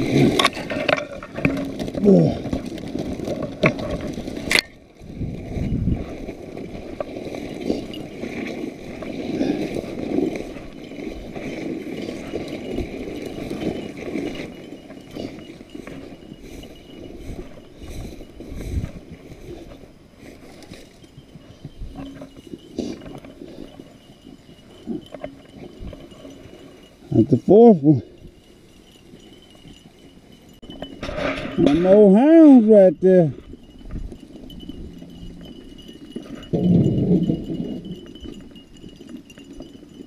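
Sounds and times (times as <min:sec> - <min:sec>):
footsteps through dry brush: 0:00.0 - 0:36.6
stems rustling against clothing: 0:00.0 - 0:40.0.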